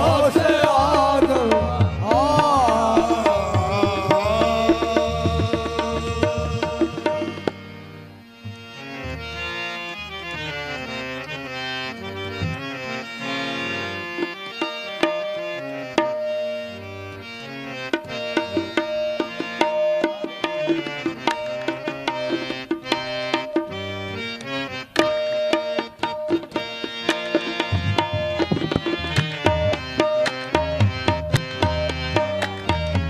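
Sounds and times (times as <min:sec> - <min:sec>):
harmonium melody: 0:00.0 - 0:33.0.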